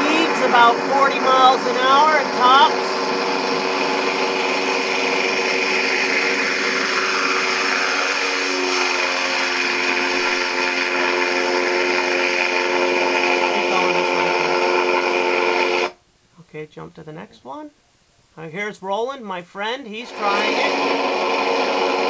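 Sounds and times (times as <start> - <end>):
engine and propeller drone: 0.0 - 15.9, 20.1 - 22.0.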